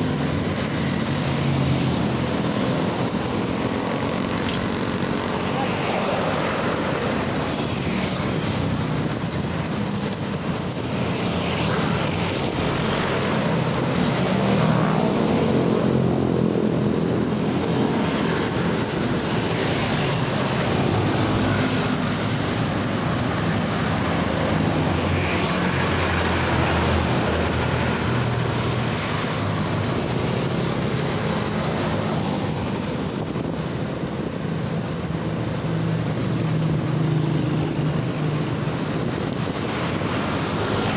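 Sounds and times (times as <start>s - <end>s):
tyre and wind noise: 0.0s - 40.9s
vehicles passing: 0.0s - 40.9s.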